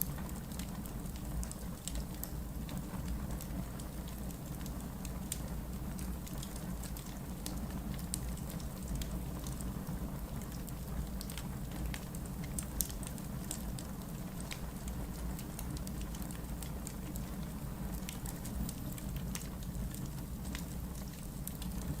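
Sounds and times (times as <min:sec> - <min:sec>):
fire crackling and popping: 0:00.0 - 0:22.0
low fire rumble: 0:00.0 - 0:22.0.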